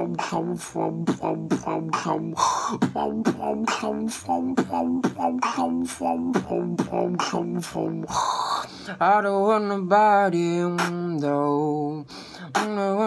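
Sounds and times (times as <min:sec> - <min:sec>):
beatboxing: 0:00.0 - 0:09.7, 0:10.4 - 0:13.0.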